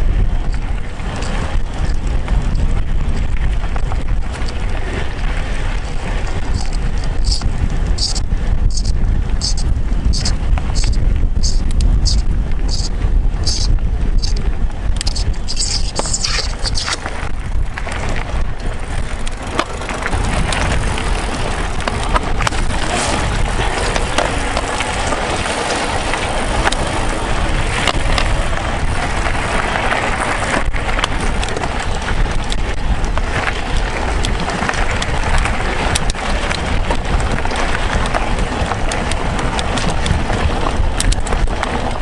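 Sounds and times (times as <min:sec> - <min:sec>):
bike knocking and rattling: 0:00.0 - 0:42.0
bike tyres on gravel: 0:00.0 - 0:42.0.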